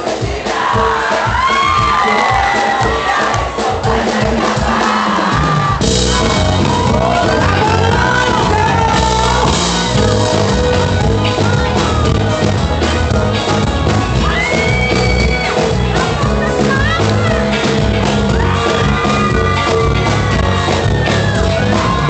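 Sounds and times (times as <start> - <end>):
crowd shouting and singing: 0.0 - 22.0
live band playing loudly: 0.0 - 22.0.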